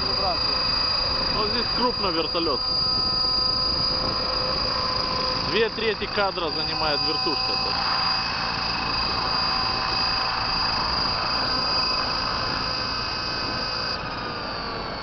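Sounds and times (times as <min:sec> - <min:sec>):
model helicopter whine: 0:00.0 - 0:15.0
rotors rushing: 0:00.0 - 0:15.0.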